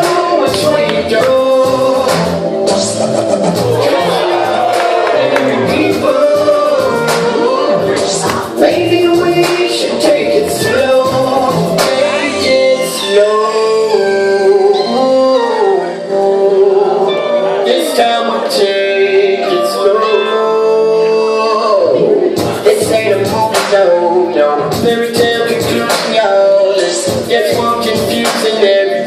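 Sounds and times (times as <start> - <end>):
song with sung melody: 0.0 - 29.0.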